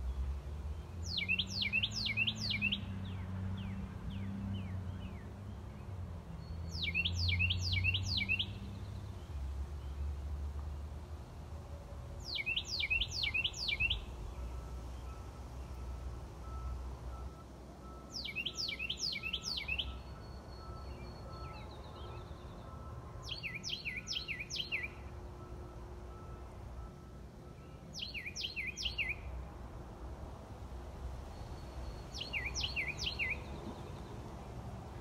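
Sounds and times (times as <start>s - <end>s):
songbird singing: 0.0s - 10.8s, 12.1s - 35.0s.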